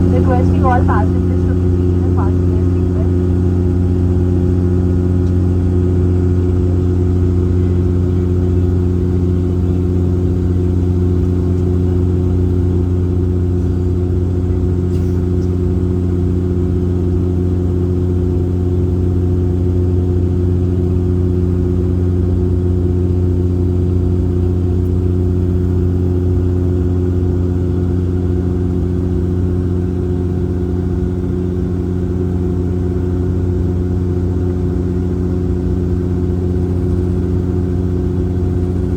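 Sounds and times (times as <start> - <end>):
turboprop cabin drone: 0.0 - 38.9.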